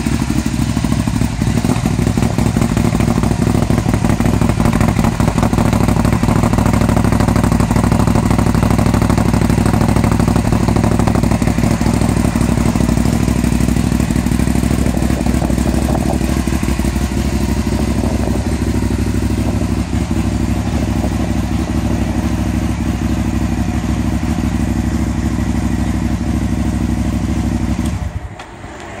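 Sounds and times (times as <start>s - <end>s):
motorcycle engine idling: 0.0s - 28.7s.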